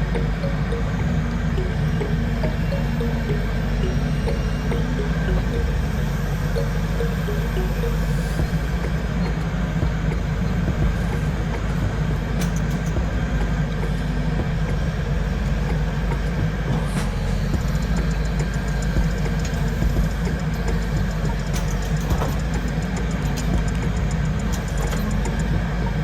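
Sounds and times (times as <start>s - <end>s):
heavy machine engine rumbling: 0.0s - 26.0s.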